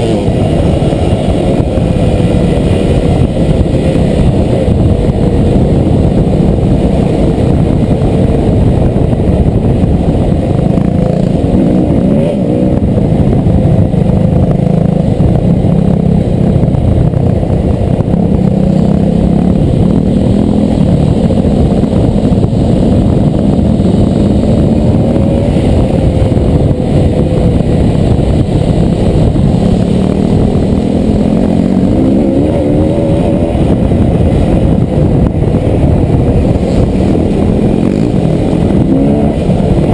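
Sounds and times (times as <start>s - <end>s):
dirt bike engine revving: 0.0s - 13.5s, 17.8s - 39.9s.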